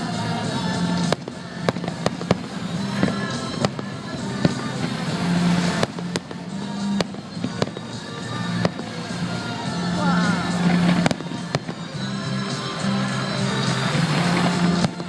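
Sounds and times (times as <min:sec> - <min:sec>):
fireworks crackling: 0:00.0 - 0:15.0
fireworks exploding: 0:00.0 - 0:15.0
music playing: 0:00.0 - 0:15.0.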